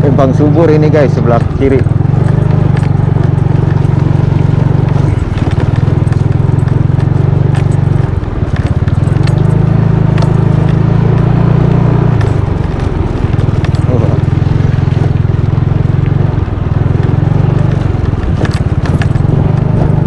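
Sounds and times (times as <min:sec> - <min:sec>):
knocks and rattles on rough path: 0:00.0 - 0:20.0
motor scooter engine running: 0:00.0 - 0:20.0.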